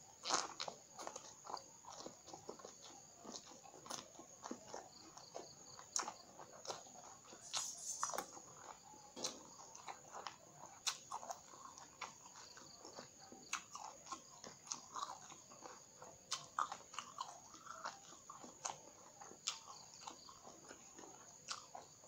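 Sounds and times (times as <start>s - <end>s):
person chewing crunchy eggplant: 0.0s - 22.0s.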